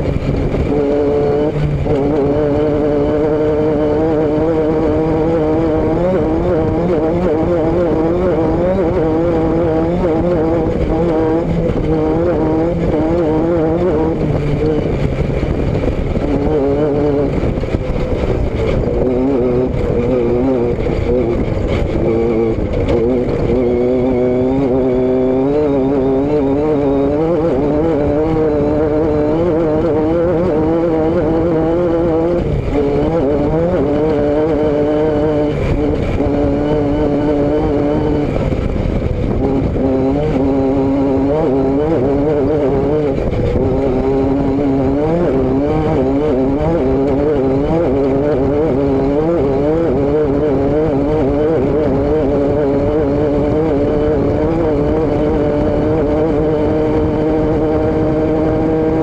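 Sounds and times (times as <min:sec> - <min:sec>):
steady rush of noise: 0:00.0 - 0:59.0
vehicle engine running: 0:00.0 - 0:59.0.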